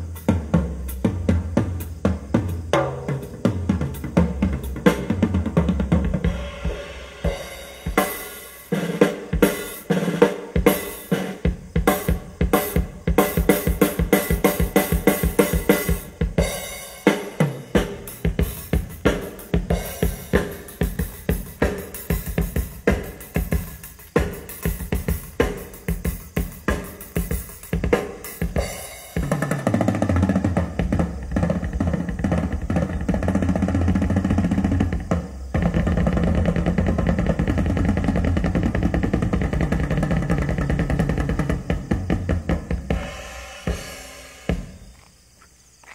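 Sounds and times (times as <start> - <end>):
drum kit beat over loudspeakers: 0.0 - 44.9.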